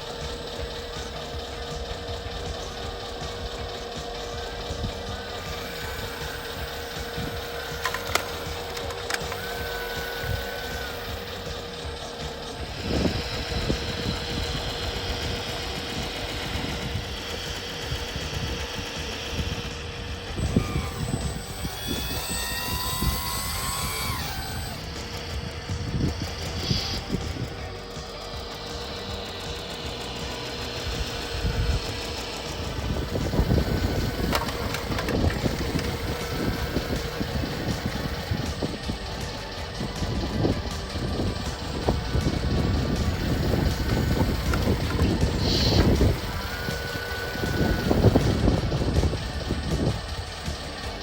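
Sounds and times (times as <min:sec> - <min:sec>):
rumbling and rattling: 0:00.0 - 0:51.0
small electric pump motors running: 0:00.0 - 0:51.0.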